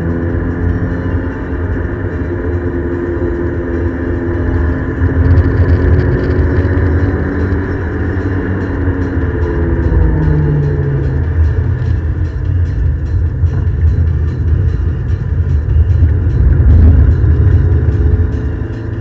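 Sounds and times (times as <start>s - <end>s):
car engine running hard: 0.0s - 19.0s
road noise: 0.0s - 19.0s.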